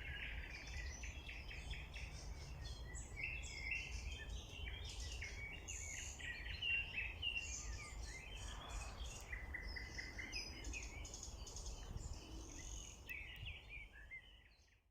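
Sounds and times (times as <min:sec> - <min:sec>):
songbirds singing: 0:00.0 - 0:14.9.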